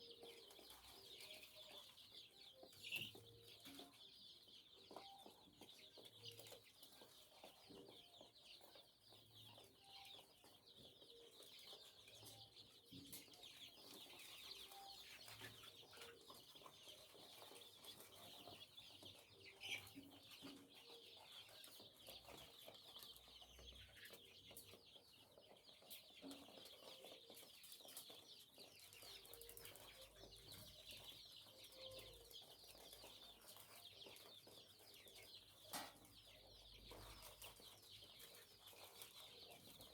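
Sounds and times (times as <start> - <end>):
chickens peeping and chirping: 0.0 - 39.9.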